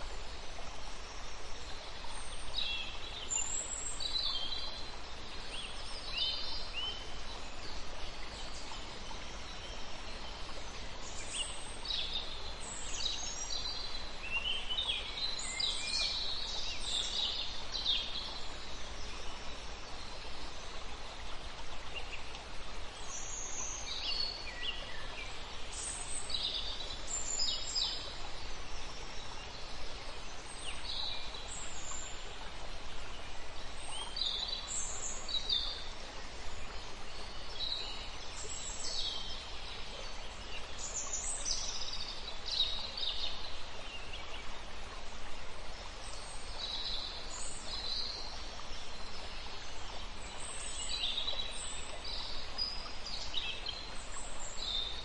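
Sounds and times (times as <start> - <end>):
outdoor ambience hiss: 0.0 - 55.0.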